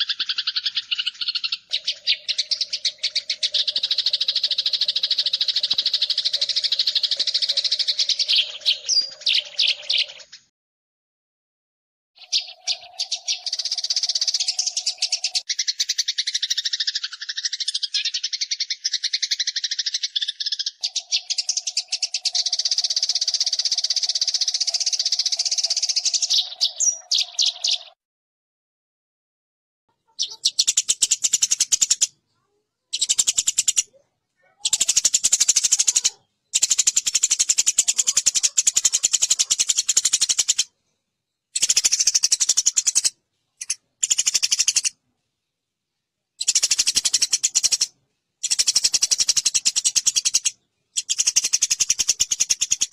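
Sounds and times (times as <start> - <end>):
sparrows chattering harshly: 0.0 - 10.5, 12.2 - 28.0, 29.9 - 45.0, 46.3 - 52.9.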